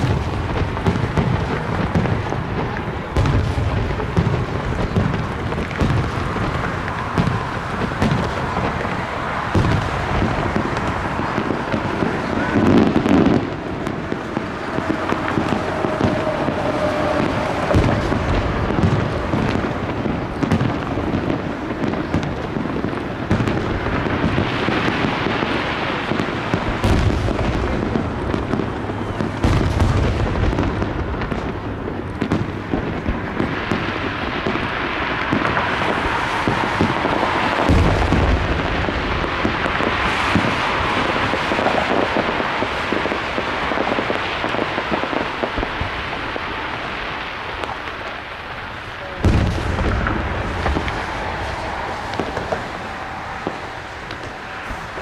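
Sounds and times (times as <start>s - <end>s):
deep firework booms: 0.0s - 55.0s
fireworks crackling and banging: 0.0s - 55.0s.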